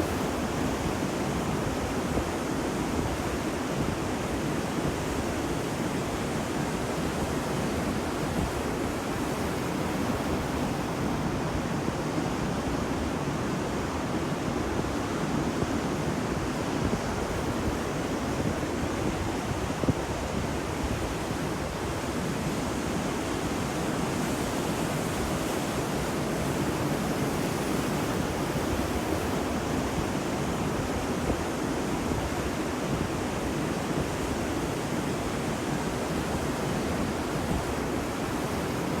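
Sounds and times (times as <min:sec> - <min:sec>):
ocean waves washing onto beach: 0:00.0 - 0:39.0.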